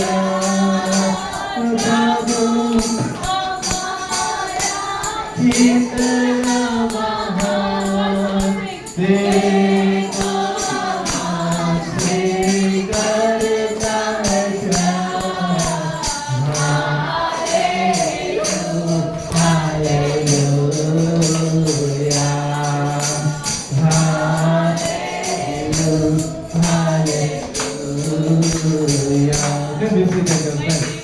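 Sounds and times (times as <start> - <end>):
tambourine beat: 0.0 - 31.0
voices singing worship song: 0.0 - 31.0.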